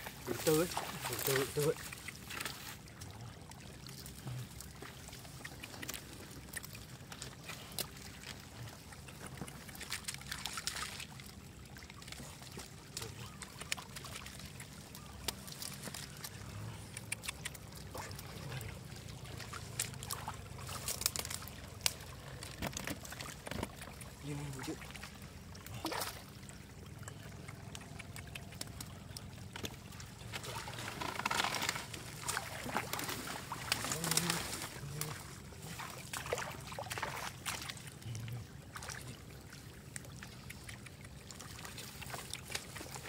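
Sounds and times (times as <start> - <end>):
splashing shallow water: 0.0 - 43.0.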